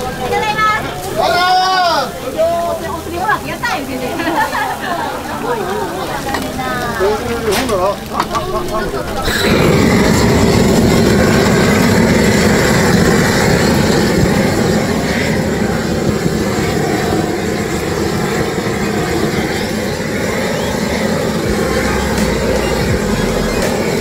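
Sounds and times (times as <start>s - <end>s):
gas torch roaring: 0.0s - 24.0s.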